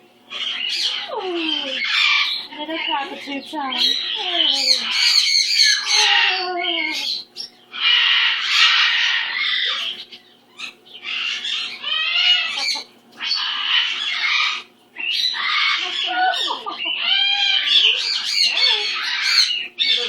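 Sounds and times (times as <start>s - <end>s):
cockatoo squawking: 0.3s - 20.0s.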